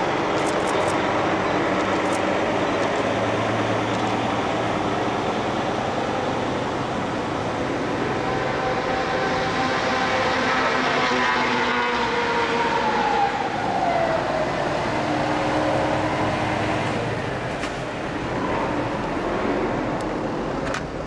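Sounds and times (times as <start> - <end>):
car traffic: 0.0 - 21.0
heavy trucks passing: 0.0 - 21.0.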